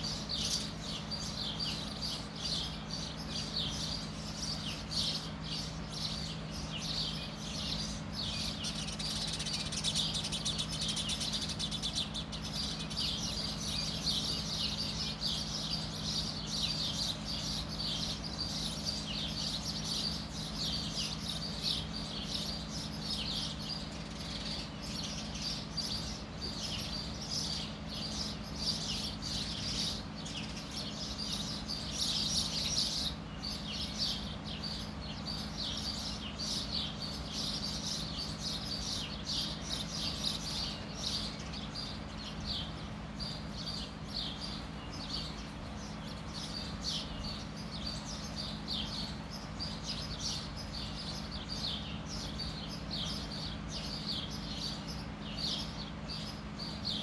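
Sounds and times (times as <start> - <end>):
small birds chirping: 0.0 - 57.0
steady low hum: 0.0 - 57.0.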